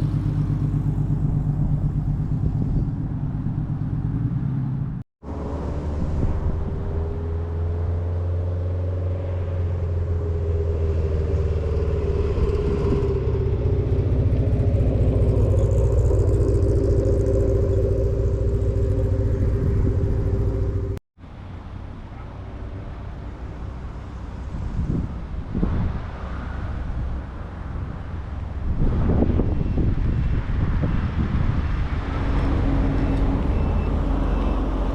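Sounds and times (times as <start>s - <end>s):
car engine passing slowly: 0.0s - 34.9s
quieter engine running: 0.0s - 34.9s.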